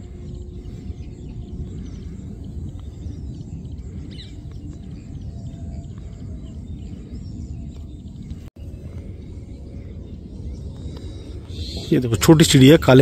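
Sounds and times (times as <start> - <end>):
small birds chirping faintly: 0.0 - 13.0
steady low rumble: 0.0 - 13.0.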